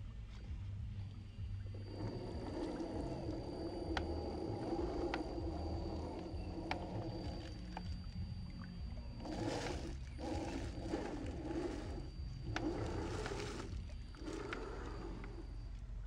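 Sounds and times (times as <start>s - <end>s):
electric motor whining: 0.0s - 16.0s
faint steady high tone: 0.3s - 16.0s.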